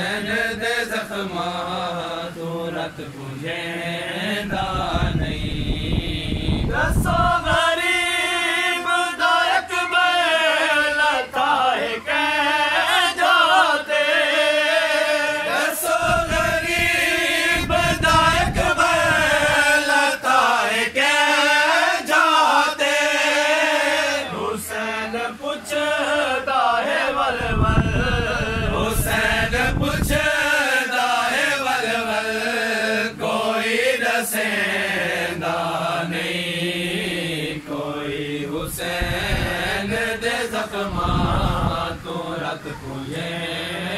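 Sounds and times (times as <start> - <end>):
men singing a lament: 0.0 - 43.9.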